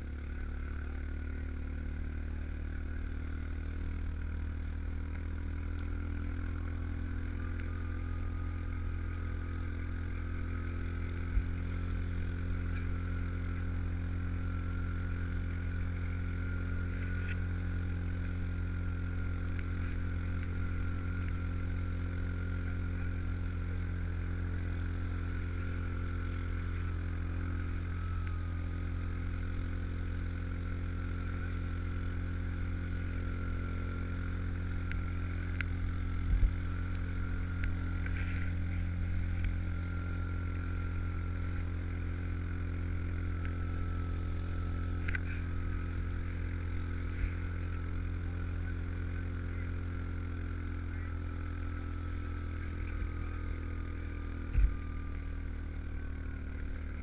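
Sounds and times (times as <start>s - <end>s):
steady high whine: 0.0s - 57.0s
tracked vehicle engine running: 0.0s - 57.0s.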